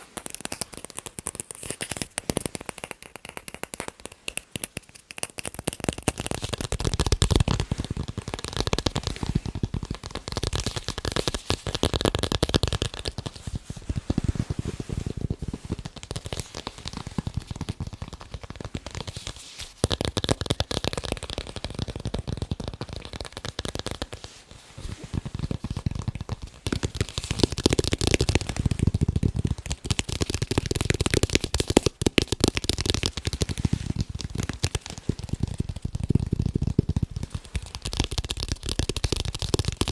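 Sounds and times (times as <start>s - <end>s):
fast tapping on balls: 0.0s - 39.9s.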